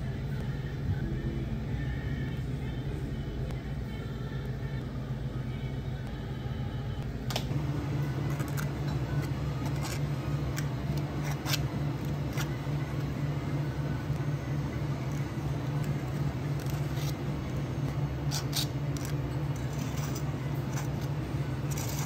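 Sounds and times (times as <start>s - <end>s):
low equipment hum: 0.0s - 22.0s.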